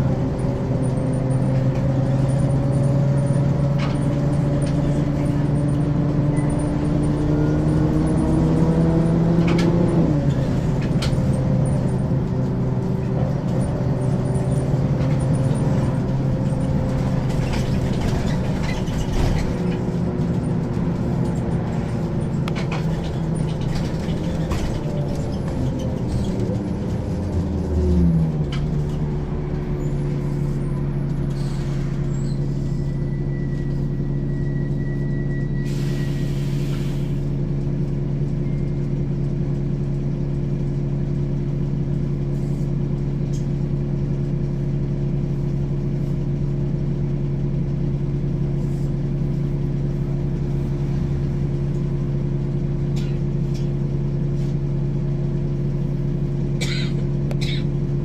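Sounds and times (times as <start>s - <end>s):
bus diesel engine driving: 0.0s - 58.0s.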